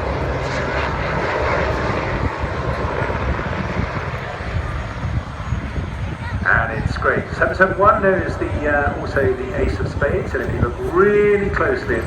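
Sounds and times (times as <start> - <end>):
helicopter flying: 0.0 - 12.0.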